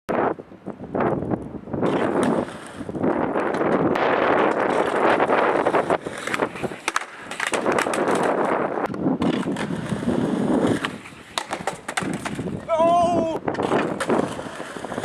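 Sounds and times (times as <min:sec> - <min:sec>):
skateboard wheels rolling: 0:00.1 - 0:15.0
skateboard clacks: 0:01.3 - 0:15.0.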